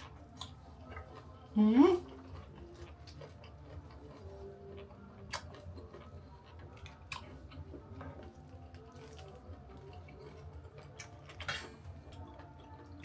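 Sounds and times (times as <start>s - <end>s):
soft eating ticks and clicks: 0.0s - 13.0s.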